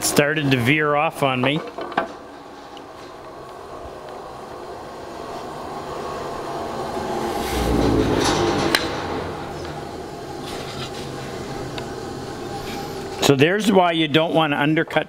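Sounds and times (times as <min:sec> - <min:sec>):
workshop machine humming: 0:00.0 - 0:15.0.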